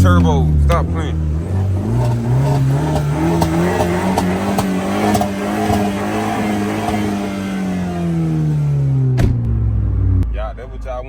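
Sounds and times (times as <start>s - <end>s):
car engine pulling under throttle: 0.0s - 11.0s.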